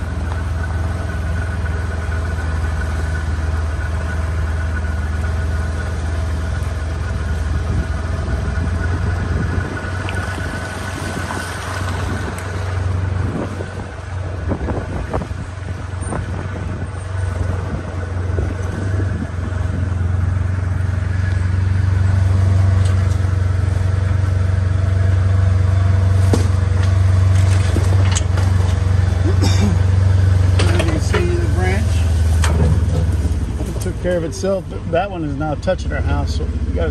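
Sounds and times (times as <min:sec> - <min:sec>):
low engine-like drone: 0:00.0 - 0:36.9.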